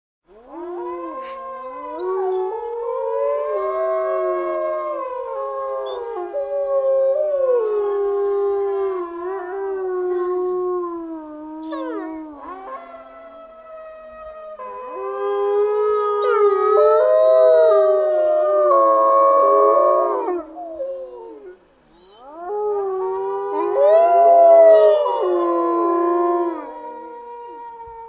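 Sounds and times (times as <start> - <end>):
wolves howling: 0.3 - 28.0.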